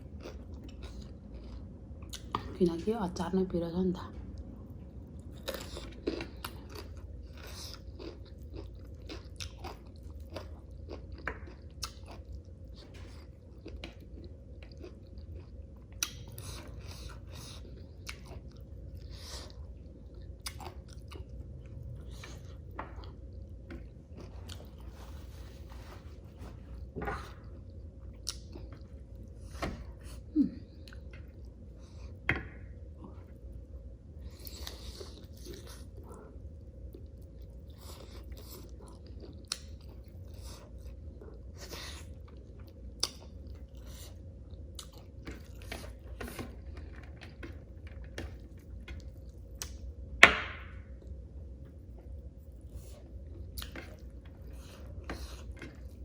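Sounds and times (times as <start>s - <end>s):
person chewing food: 0.0s - 2.5s, 4.4s - 50.1s, 50.8s - 56.0s.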